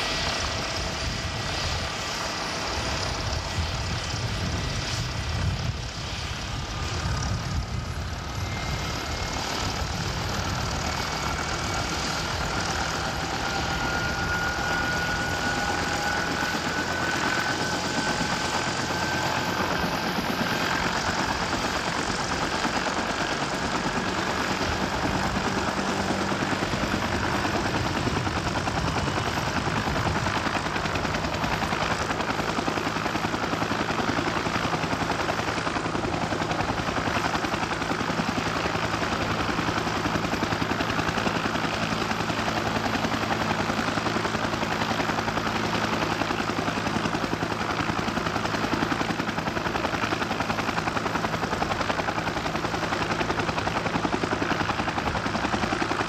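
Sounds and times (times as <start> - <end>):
helicopter turbine and rotor: 0.0 - 56.0.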